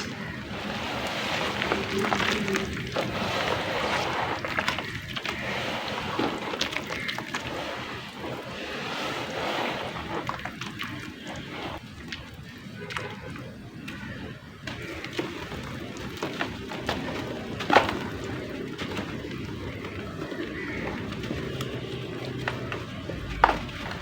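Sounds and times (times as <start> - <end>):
clay crackling: 0.0 - 11.8, 13.8 - 24.0
wet clay squelching and sloshing: 0.0 - 24.0.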